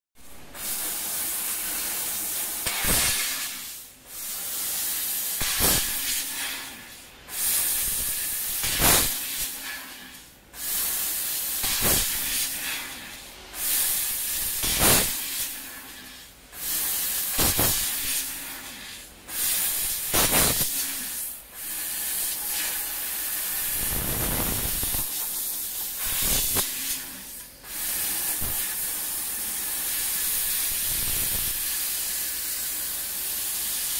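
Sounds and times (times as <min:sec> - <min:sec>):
assist gas hissing from nozzle: 0:00.5 - 0:12.9, 0:13.6 - 0:33.9.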